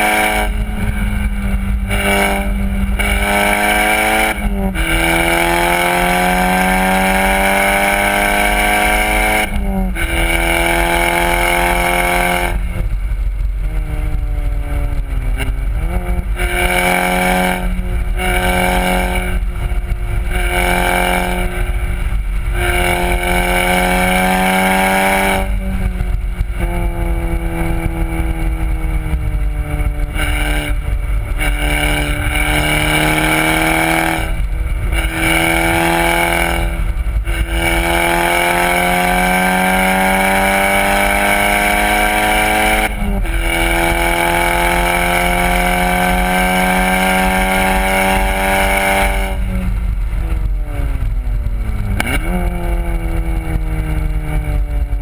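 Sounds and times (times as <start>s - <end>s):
car engine accelerating: 0.0s - 55.0s
wind and road noise: 0.0s - 55.0s.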